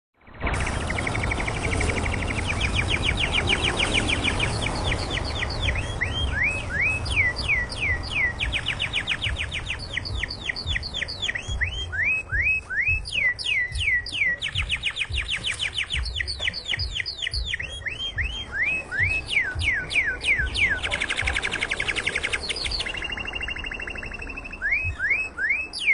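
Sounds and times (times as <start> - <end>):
canary singing: 0.5 - 25.9.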